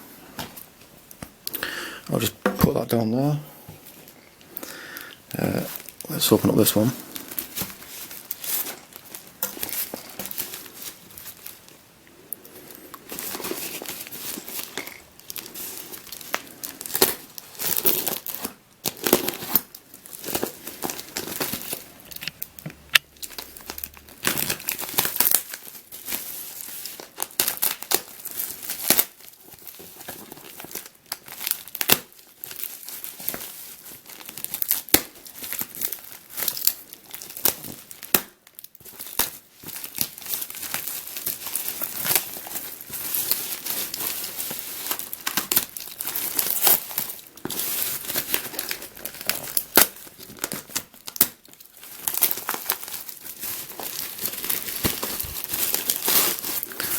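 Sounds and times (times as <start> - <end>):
packaging torn and crumpled: 5.3 - 56.9.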